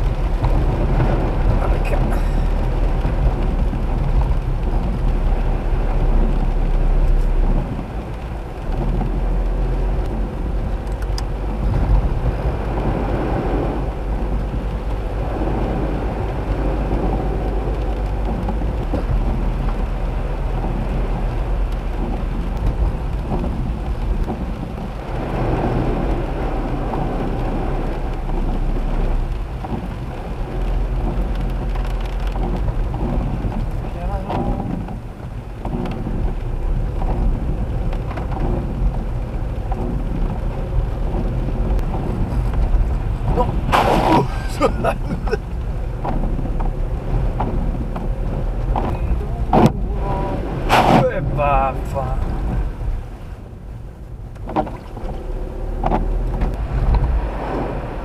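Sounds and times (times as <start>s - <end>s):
car engine and road hum: 0.0s - 58.0s
heavy rain: 0.0s - 58.0s
tyres on waterlogged road: 0.0s - 58.0s.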